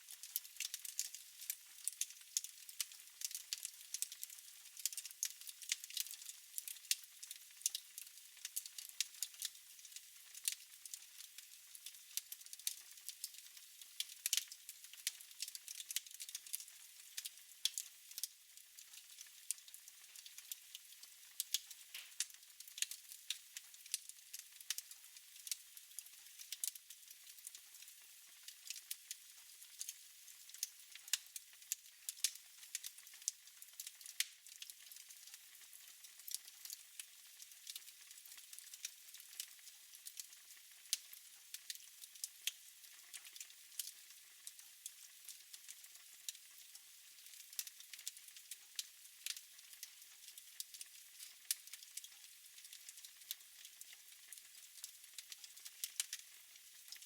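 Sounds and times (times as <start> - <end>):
wood fire crackling: 0.0 - 27.8, 28.6 - 46.0, 46.6 - 48.6, 49.2 - 57.0
faint steady hiss: 0.0 - 57.0.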